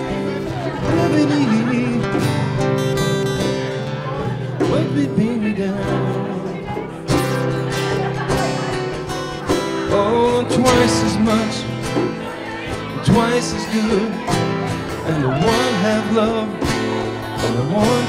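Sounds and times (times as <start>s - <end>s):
man singing into a microphone: 0.0s - 2.9s, 4.2s - 7.8s, 9.6s - 18.0s
acoustic guitars strummed: 0.0s - 18.0s.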